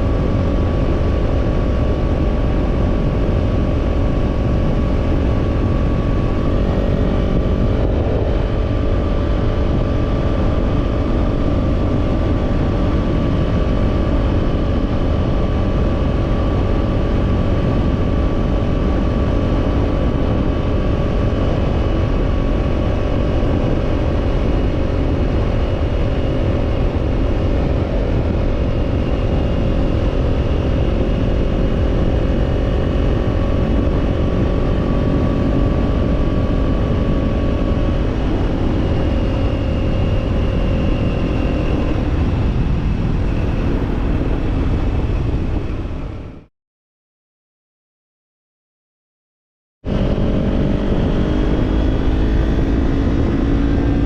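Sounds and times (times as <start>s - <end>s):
motorcycle engine cruising: 0.0s - 46.4s, 49.9s - 54.0s
wind rumble on microphone: 0.0s - 46.5s, 49.8s - 54.0s.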